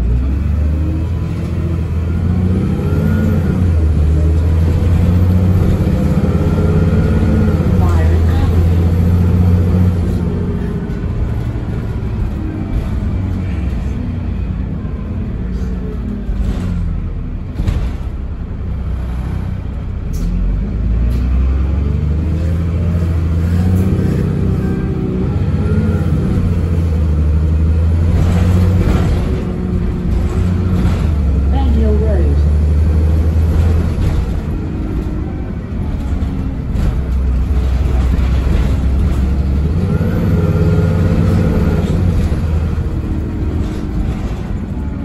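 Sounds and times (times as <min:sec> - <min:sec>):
bus diesel engine: 0:00.0 - 0:45.0.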